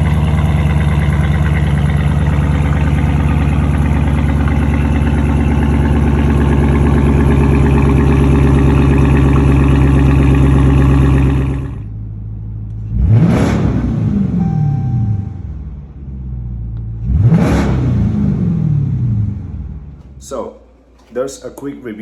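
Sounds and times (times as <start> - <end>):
engine blip rev: 0.0 - 20.3
loud car exhaust running: 0.0 - 20.3.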